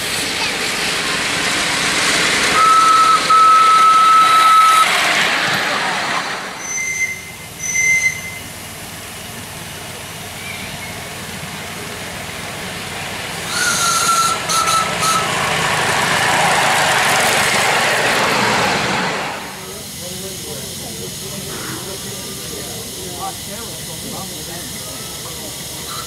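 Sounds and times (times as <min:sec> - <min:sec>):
model steam locomotive running: 0:00.0 - 0:26.0.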